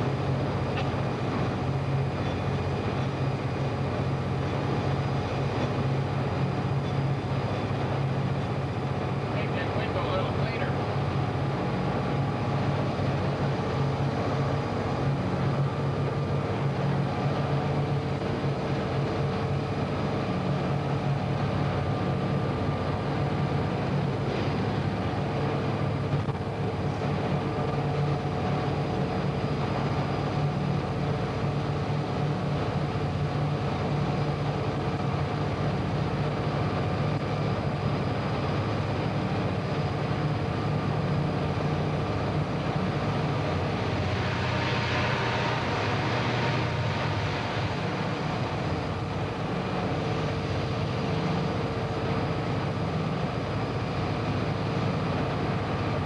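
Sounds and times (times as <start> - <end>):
locomotive engine hum: 0.0 - 56.0
moving train noise: 0.0 - 56.0.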